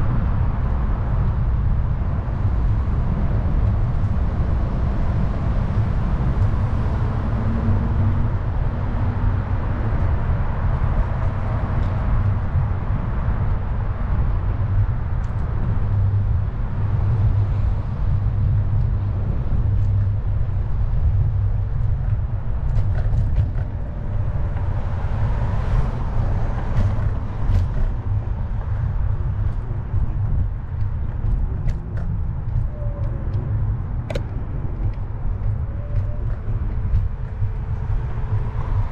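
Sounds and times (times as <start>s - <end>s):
scooter road rumble: 0.0s - 38.9s
wind buffeting microphone: 0.0s - 38.9s.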